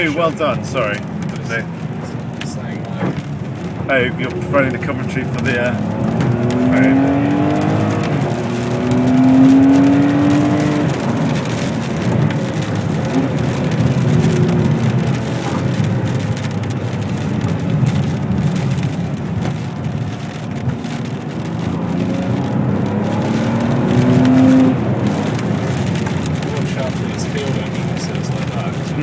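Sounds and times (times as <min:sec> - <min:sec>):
car engine revving: 0:00.0 - 0:29.0
tyres hissing on wet road: 0:00.0 - 0:29.0.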